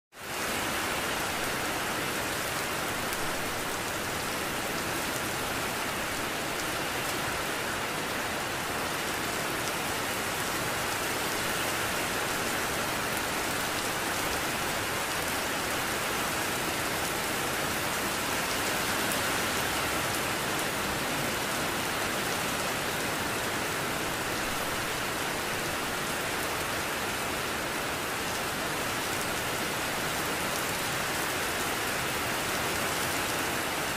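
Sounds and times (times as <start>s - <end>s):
steady rainfall: 0.1s - 33.9s.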